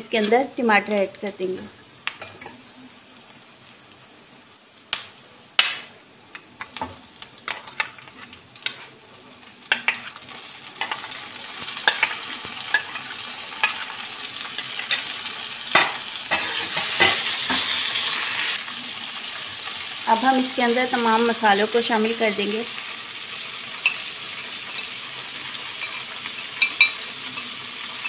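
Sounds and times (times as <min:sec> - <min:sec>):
onions frying in hot oil: 0:00.0 - 0:28.0.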